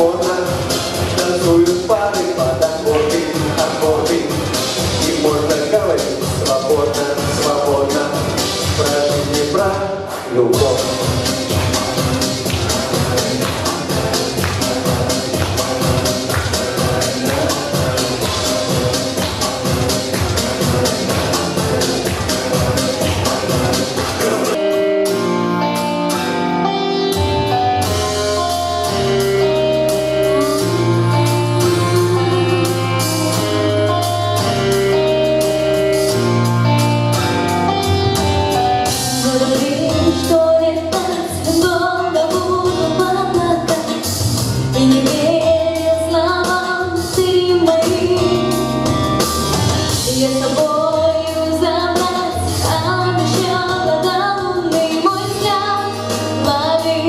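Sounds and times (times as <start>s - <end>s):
instrumental chords and bass line: 0.0s - 9.6s, 10.5s - 57.0s
person singing with vibrato: 0.0s - 26.8s, 27.8s - 36.6s, 38.5s - 57.0s.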